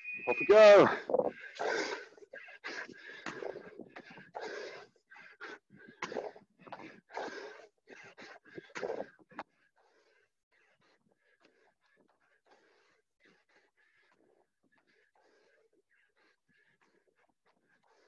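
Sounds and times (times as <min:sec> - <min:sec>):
person panting hard: 0:00.7 - 0:18.0.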